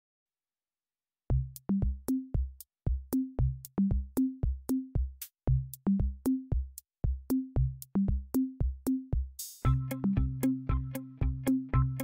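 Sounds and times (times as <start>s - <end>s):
electronic music with drum-machine beat: 1.3s - 12.0s.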